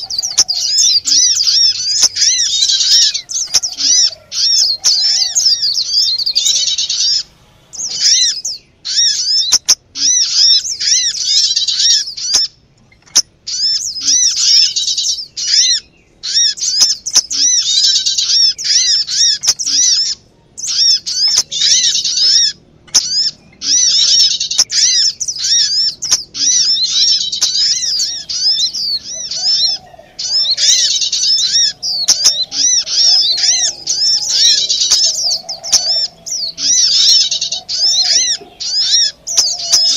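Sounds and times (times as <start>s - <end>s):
small birds chirping in alarm: 0.0s - 39.9s.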